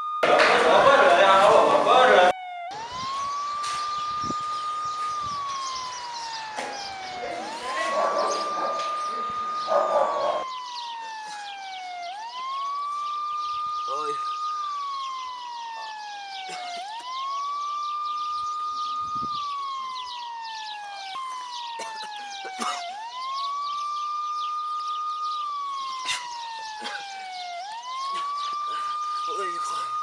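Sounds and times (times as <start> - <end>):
siren wailing: 0.0 - 30.0.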